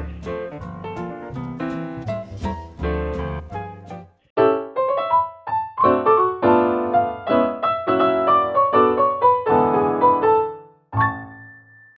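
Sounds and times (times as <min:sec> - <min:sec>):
piano music: 0:00.0 - 0:11.9.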